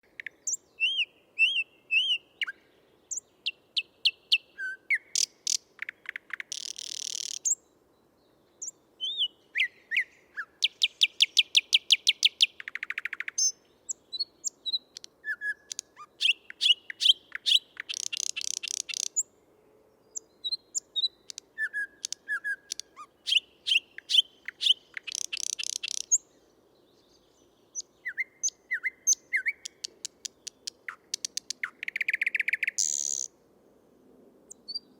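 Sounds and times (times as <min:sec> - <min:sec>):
thrush nightingale singing: 0:00.0 - 0:19.4, 0:20.0 - 0:33.4, 0:34.5 - 0:34.9.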